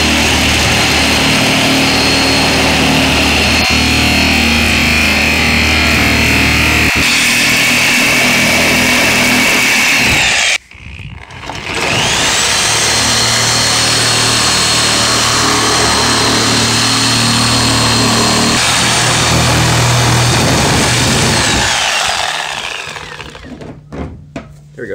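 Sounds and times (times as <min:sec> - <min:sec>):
reciprocating saw cutting plastic: 0:00.0 - 0:23.6.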